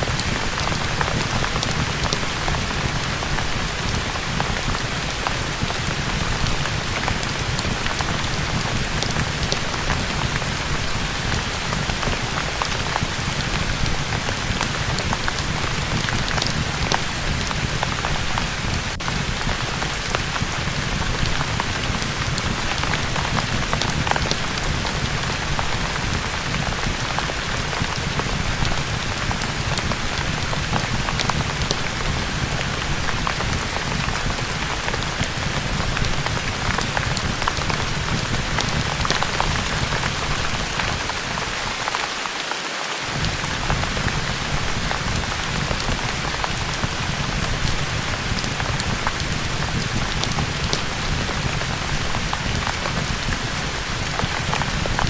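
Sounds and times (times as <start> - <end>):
fireplace crackling and popping: 0.0 - 42.0, 43.1 - 55.0
heavy rain: 0.0 - 55.0.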